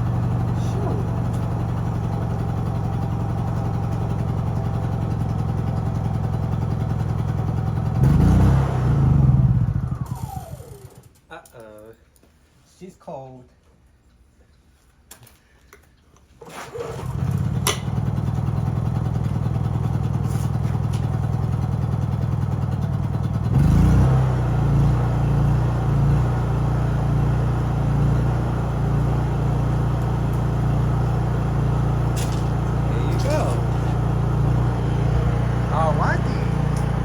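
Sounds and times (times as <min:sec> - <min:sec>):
generator engine running: 0:00.0 - 0:11.1, 0:16.7 - 0:37.0.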